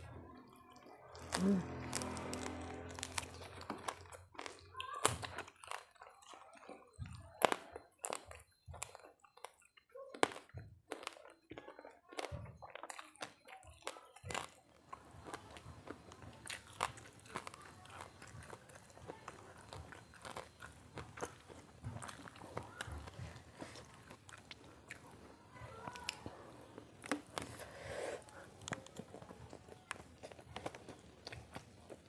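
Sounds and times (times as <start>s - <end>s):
person chewing crunchy food: 0.4s - 32.0s.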